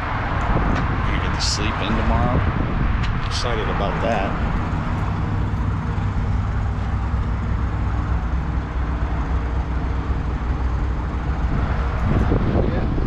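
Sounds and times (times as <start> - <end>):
diesel truck engine idling: 0.1 - 13.0.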